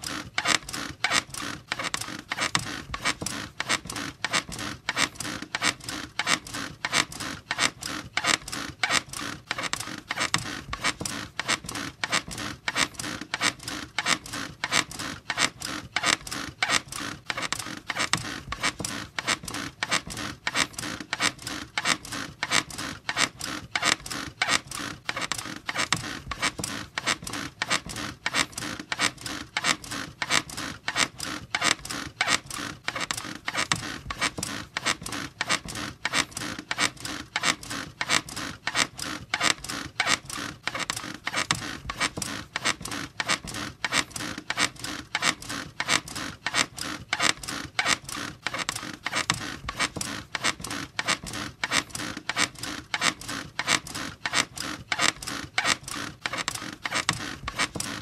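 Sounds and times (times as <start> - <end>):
bed creaking: 0.0 - 58.0.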